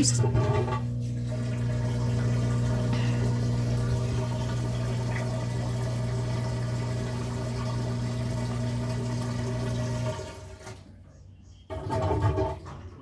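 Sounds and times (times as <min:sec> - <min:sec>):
drain pump humming: 0:00.0 - 0:11.0.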